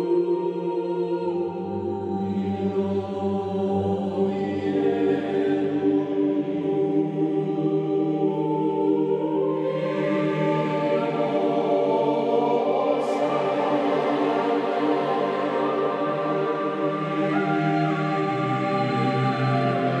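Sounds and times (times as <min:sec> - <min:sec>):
slow ambient music: 0:00.0 - 0:20.0.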